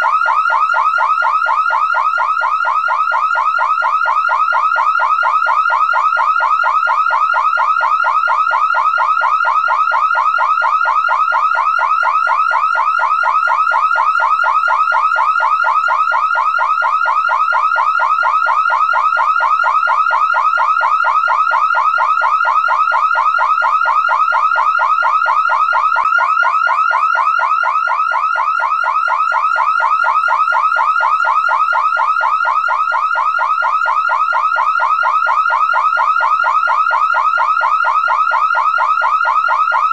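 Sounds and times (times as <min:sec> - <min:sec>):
car alarm siren: 0:00.0 - 0:39.9.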